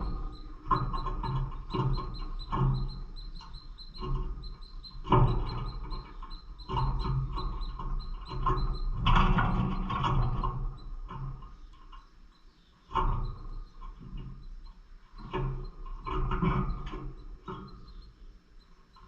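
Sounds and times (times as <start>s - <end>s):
lovebirds chirping: 0.0s - 19.0s
steady low hum: 0.0s - 19.0s.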